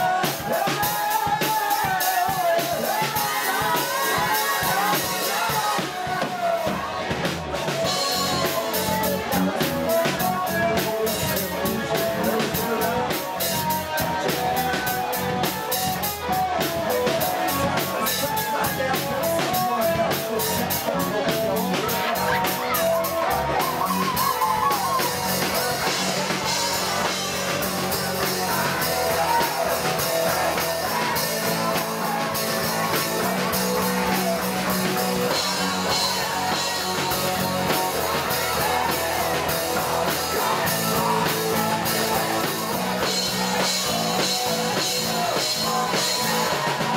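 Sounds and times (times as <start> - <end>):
bass guitar: 0.0 - 46.9
drum kit with cymbal strikes: 0.0 - 46.9
electric guitars: 0.0 - 46.9.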